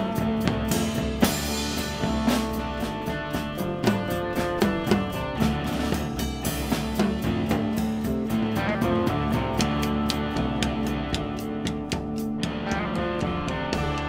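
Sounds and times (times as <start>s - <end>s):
drum kit with cymbal hits: 0.0s - 14.0s
sustained guitar notes: 0.0s - 14.0s.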